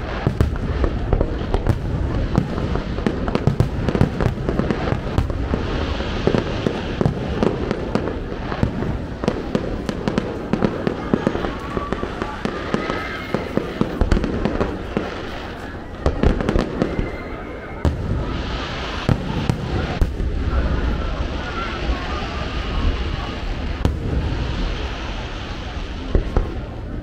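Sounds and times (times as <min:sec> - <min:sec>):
fireworks bursting: 0:00.0 - 0:27.0.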